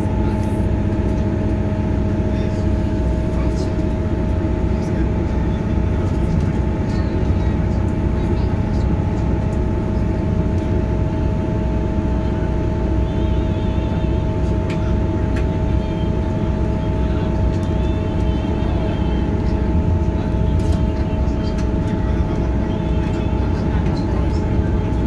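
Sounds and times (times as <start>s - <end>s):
diesel engine and wheels rumble: 0.0s - 25.0s.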